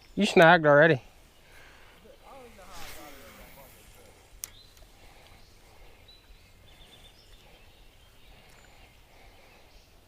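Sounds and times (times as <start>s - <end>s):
faint bird chirps: 1.2s - 10.0s.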